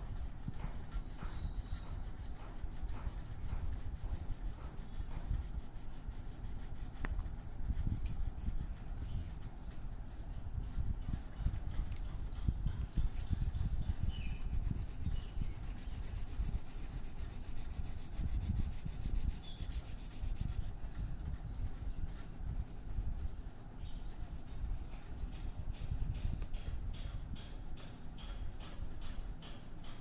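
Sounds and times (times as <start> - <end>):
colouring strokes scratching paper: 0.0 - 10.1, 10.8 - 26.6.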